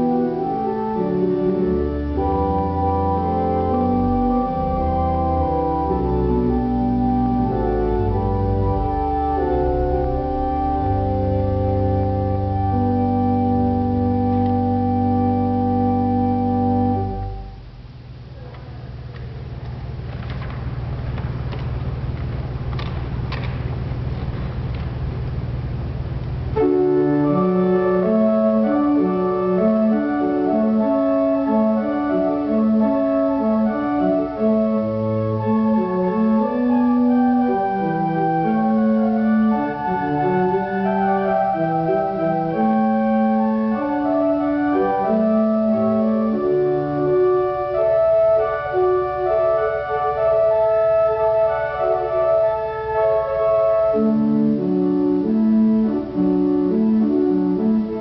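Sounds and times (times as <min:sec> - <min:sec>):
church organ playing: 0:00.0 - 0:18.4, 0:19.7 - 0:58.0.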